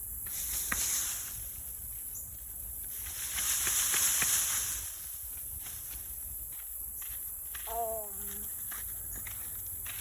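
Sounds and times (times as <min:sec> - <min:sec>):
high outdoor hiss: 0:00.0 - 0:10.0.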